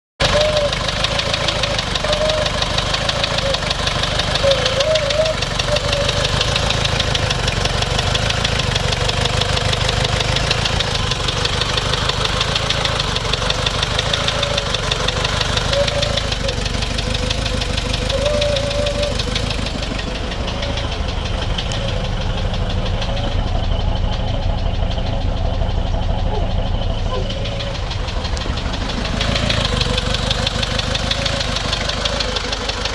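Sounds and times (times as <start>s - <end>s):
diesel engine knocking: 0.2s - 32.9s.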